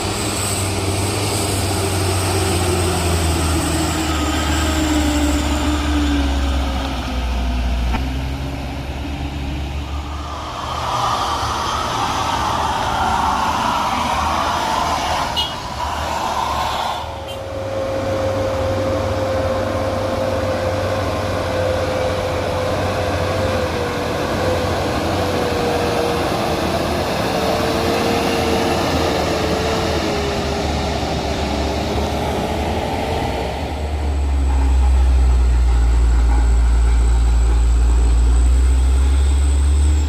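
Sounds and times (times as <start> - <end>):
truck engine labouring uphill: 0.0 - 40.0.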